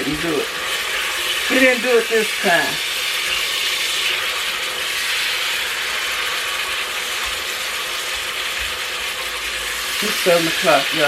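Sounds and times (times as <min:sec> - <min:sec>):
food sizzling and crackling: 0:00.0 - 0:11.0.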